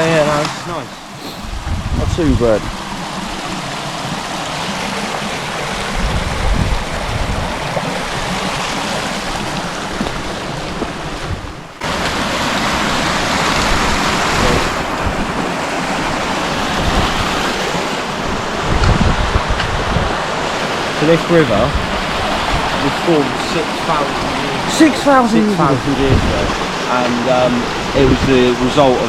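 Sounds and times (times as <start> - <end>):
river rushing: 0.0 - 29.0
wind buffeting the microphone: 0.0 - 29.0.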